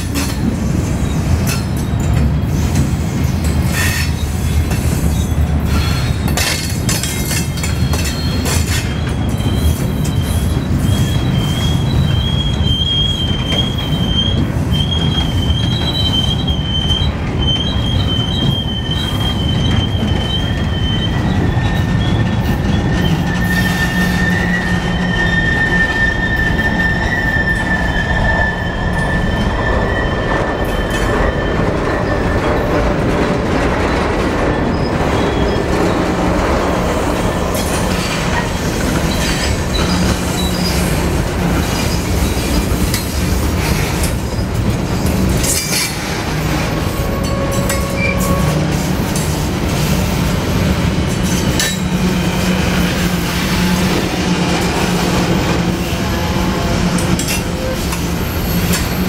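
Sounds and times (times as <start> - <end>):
freight train wheels rumbling: 0.0 - 59.0
wheel squeal: 1.0 - 6.4, 7.3 - 32.6, 34.5 - 59.0.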